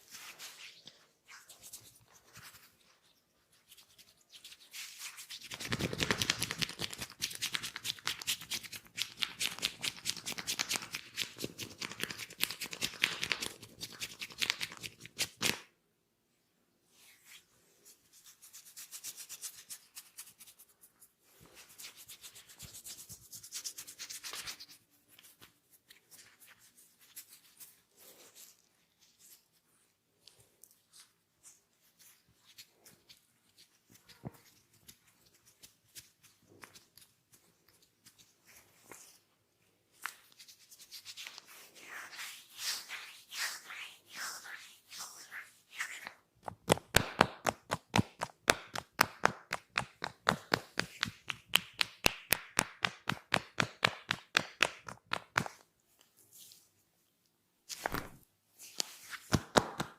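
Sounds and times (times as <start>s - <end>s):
hands rubbing oiled skin: 0.1s - 15.7s, 16.9s - 29.6s, 30.2s - 39.3s, 39.9s - 56.7s, 57.7s - 59.9s.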